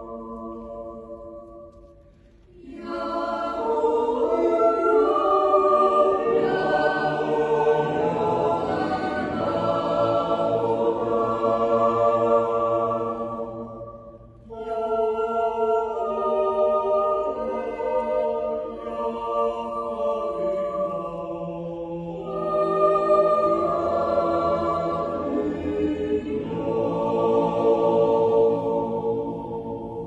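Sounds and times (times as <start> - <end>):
mixed choir singing a cappella: 0.0 - 30.0.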